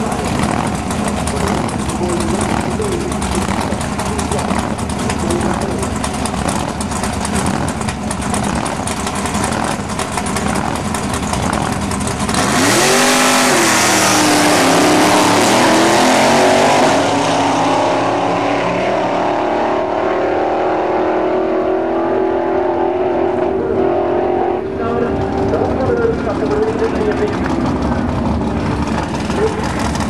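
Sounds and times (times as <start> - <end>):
engine revving: 0.0 - 30.0.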